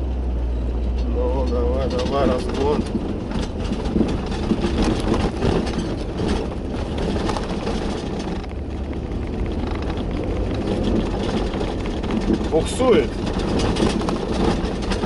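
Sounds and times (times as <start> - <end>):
car engine working hard: 0.0 - 15.0
tyres churning through snow: 1.2 - 15.0.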